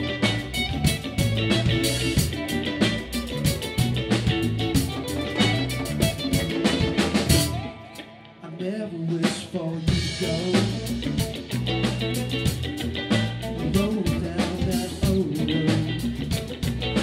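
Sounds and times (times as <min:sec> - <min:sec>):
drum kit: 0:00.0 - 0:08.1, 0:09.0 - 0:17.0
rock band playing live: 0:00.0 - 0:17.0
single guitar line: 0:00.0 - 0:17.0.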